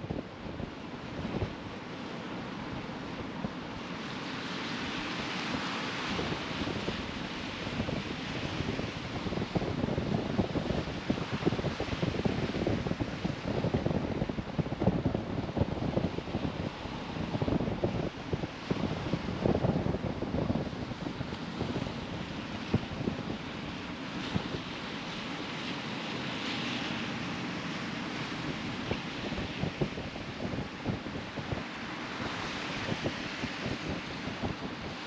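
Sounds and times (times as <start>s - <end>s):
surf washing on rocky shore: 0.0s - 35.0s
wind gusting on microphone: 0.0s - 35.0s.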